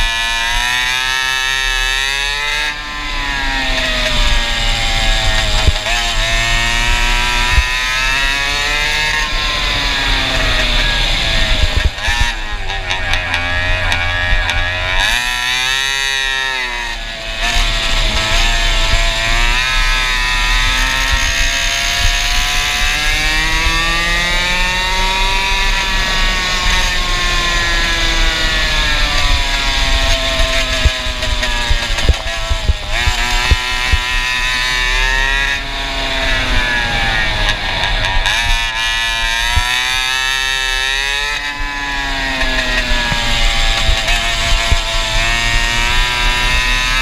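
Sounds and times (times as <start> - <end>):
go-kart engine: 0.0 - 47.0.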